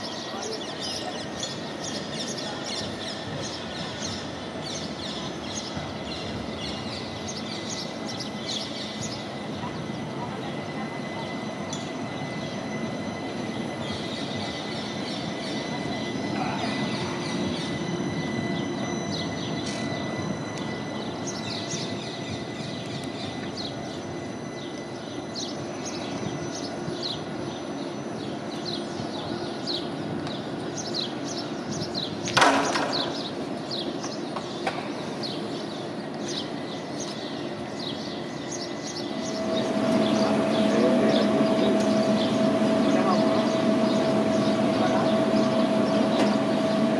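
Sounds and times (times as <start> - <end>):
birds chirping: 0.0 - 46.9
tram electrical hum: 0.0 - 46.9.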